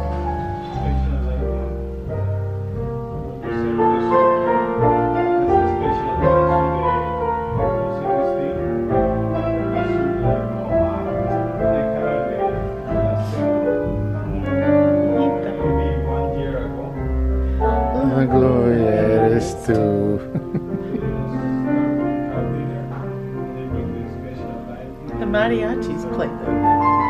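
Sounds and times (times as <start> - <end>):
slow romantic piano music: 0.0 - 27.0.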